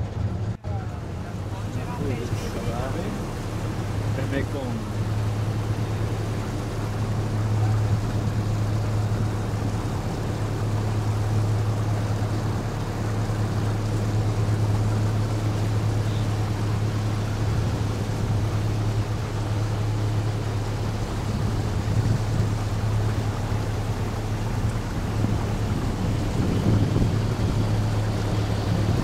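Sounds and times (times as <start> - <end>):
boat engine humming: 0.0 - 29.0
rushing water: 0.0 - 29.0
wind: 0.0 - 29.0.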